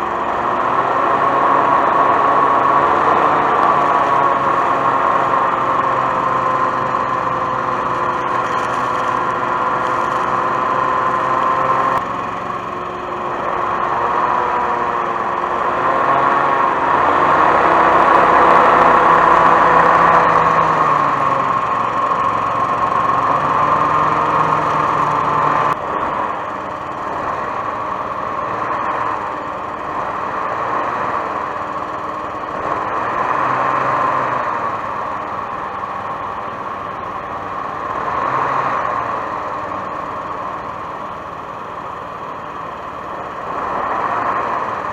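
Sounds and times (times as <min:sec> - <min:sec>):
hovercraft engine and fan humming: 0:00.0 - 0:44.9.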